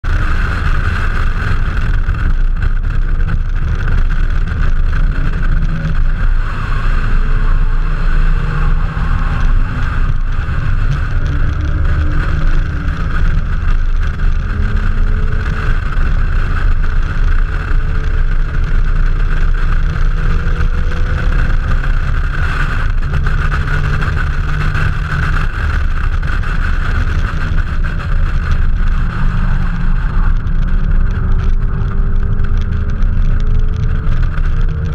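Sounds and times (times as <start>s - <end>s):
car engine running hard: 0.0s - 34.9s.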